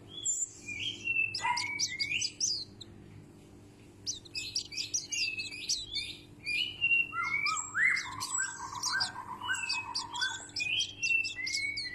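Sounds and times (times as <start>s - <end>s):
rising whistled bird notes and trill: 0.0s - 2.8s, 4.1s - 11.9s
high twittering bird chirps: 0.0s - 2.9s, 4.0s - 11.9s.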